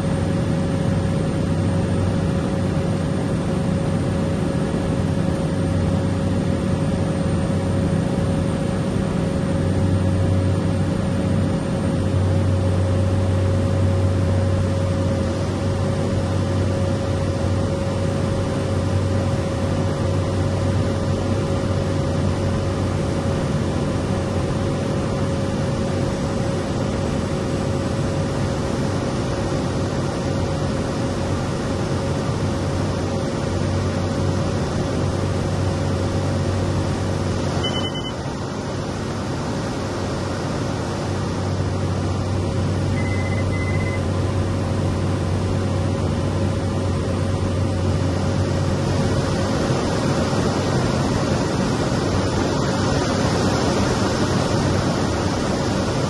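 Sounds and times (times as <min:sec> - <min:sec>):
turboprop engine drone with whine: 0:00.0 - 0:56.0.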